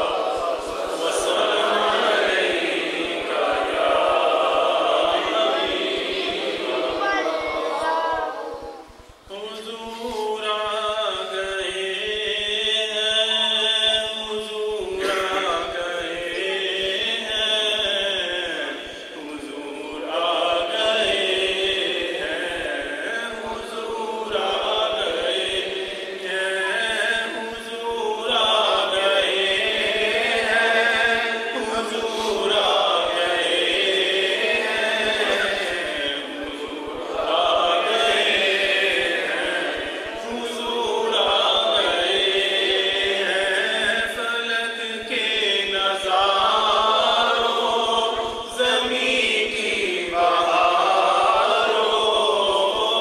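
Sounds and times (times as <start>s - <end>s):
man singing into a microphone: 9.2s - 53.0s.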